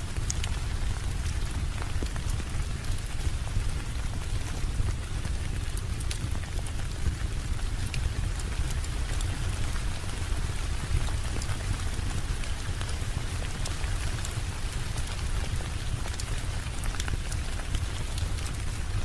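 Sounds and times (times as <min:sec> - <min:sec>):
steady rain: 0:00.0 - 0:19.0
fire crackling: 0:00.1 - 0:19.0.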